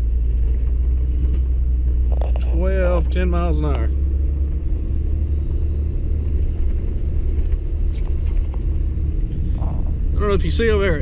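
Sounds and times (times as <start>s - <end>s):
car driving over snow: 0.0s - 11.0s.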